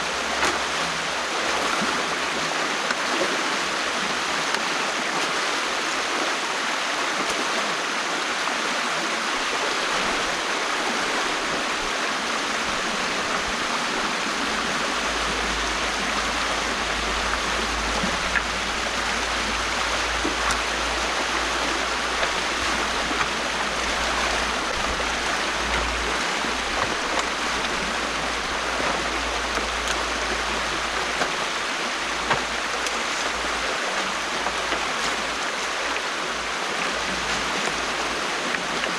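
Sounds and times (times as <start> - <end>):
water rushing through dam: 0.0 - 38.9.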